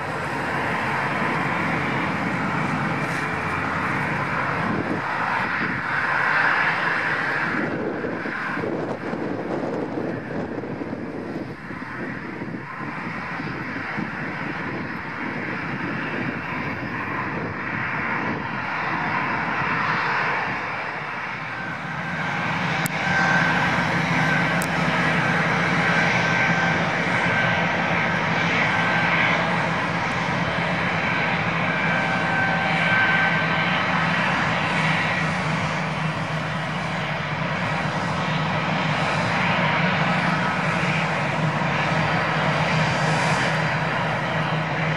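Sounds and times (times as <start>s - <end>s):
jet engine whine and rumble: 0.0s - 44.9s.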